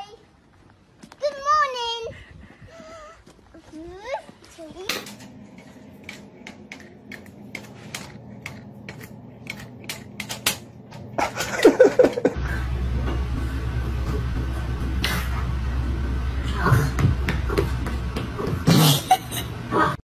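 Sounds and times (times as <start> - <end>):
steady low hum: 1.9 - 20.0.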